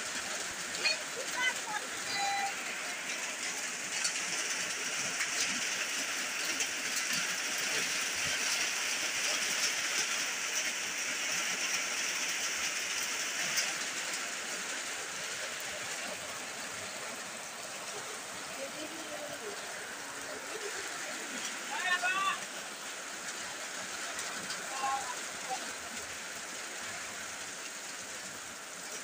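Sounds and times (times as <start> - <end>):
heavy rain on standing water: 0.0 - 29.0.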